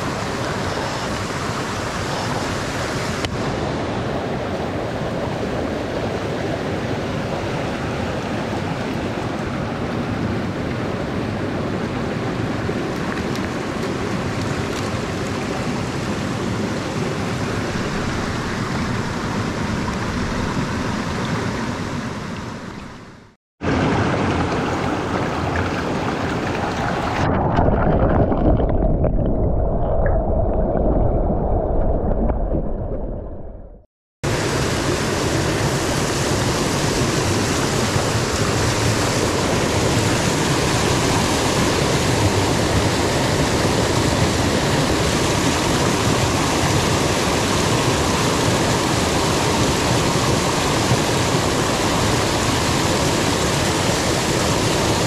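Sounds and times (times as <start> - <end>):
stream water rushing: 0.0 - 29.0, 34.2 - 55.0.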